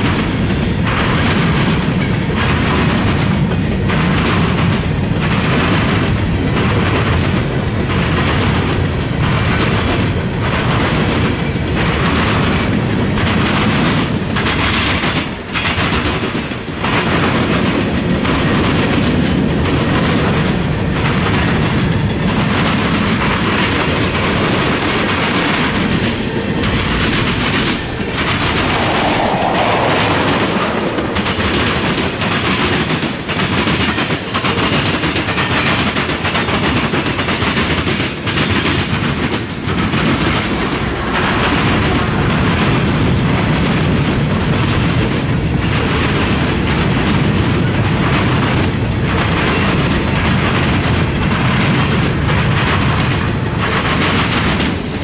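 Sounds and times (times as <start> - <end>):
wheels clickety-clack: 0.0 - 29.0, 31.6 - 55.0
freight cars rumbling on rail: 0.0 - 55.0.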